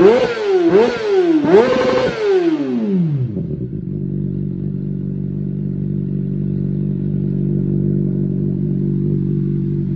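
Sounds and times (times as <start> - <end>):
motorcycle engine idling: 0.0 - 9.9.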